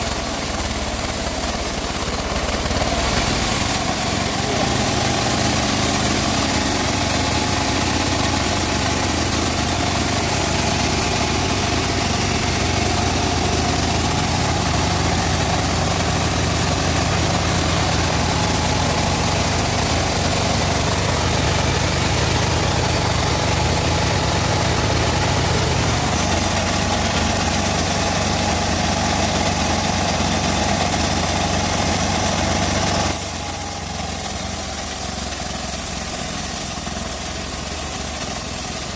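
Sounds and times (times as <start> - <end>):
bandsaw mill droning: 0.0 - 38.9.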